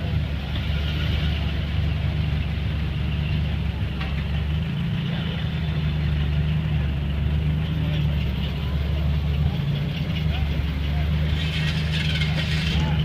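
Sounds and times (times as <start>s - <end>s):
car engine running at low speed: 0.0s - 13.0s.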